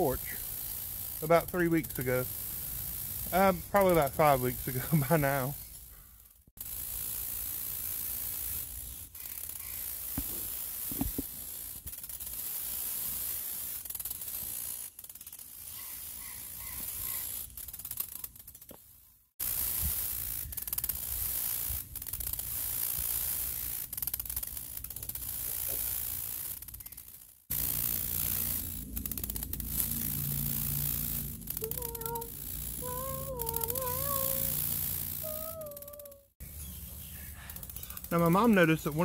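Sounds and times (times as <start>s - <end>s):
high-pitched pulsing insect buzz: 0.0s - 5.9s, 6.6s - 18.7s, 19.4s - 39.0s.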